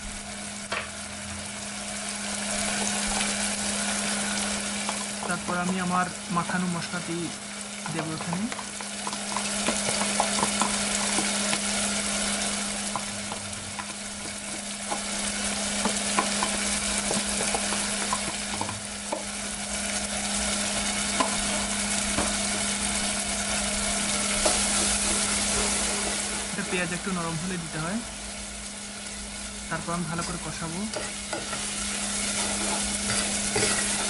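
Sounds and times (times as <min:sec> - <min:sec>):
onions sizzling in a saucepan: 0:00.0 - 0:34.0.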